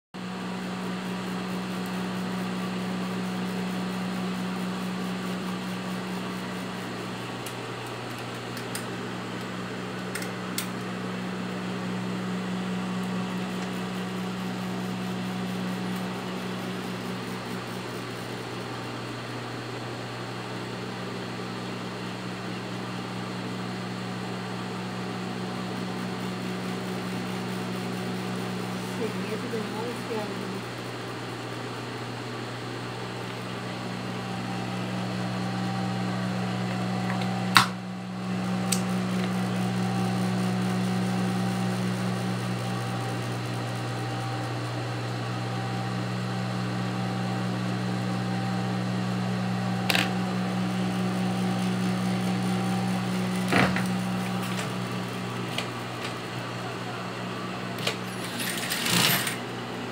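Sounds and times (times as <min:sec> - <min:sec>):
electric motor hum: 0:00.2 - 0:59.9.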